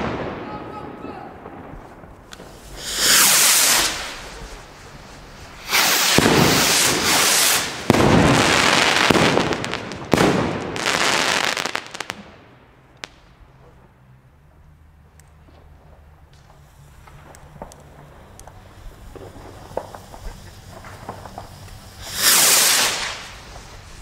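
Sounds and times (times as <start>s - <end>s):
firework bangs: 0.0s - 13.9s, 15.3s - 24.0s
firework rockets hissing: 1.4s - 12.3s, 15.4s - 24.0s.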